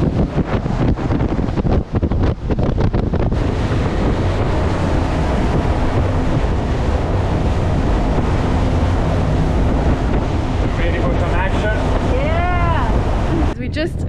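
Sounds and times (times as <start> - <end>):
boat engines and water rush: 0.0 - 14.0
wind buffeting microphone: 0.0 - 14.0.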